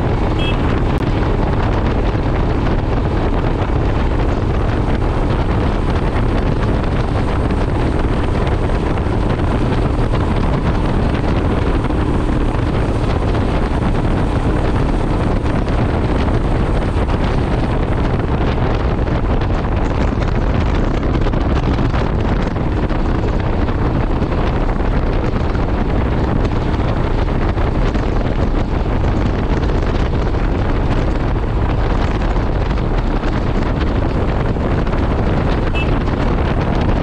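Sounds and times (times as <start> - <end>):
motorcycle engine and tyres: 0.0 - 37.0
wind rushing over microphone: 0.0 - 37.0.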